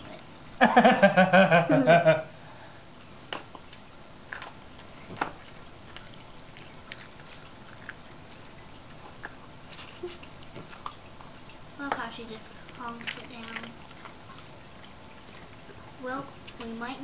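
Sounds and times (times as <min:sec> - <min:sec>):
dog chewing crumbs: 0:03.0 - 0:16.7.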